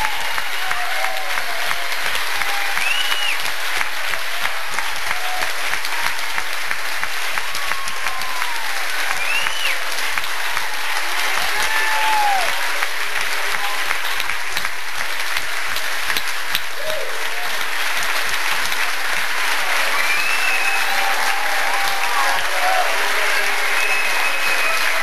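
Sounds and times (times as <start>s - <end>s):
audience applause: 0.0s - 25.0s.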